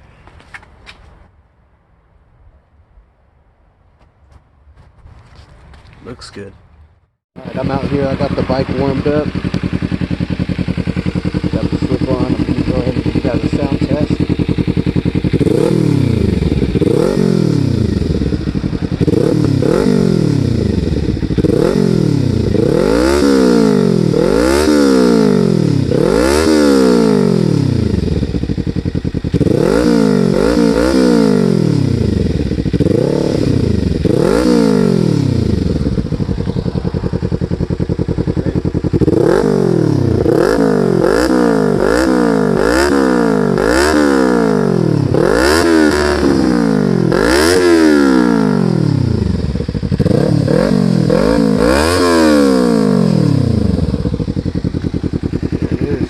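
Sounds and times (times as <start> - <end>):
motorcycle engine revving: 7.4 - 56.0.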